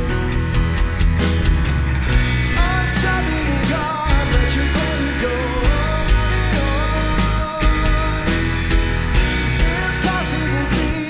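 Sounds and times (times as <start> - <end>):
drum hits: 0.0 - 11.0
grand piano: 0.0 - 11.0
rock band playing: 0.0 - 11.0.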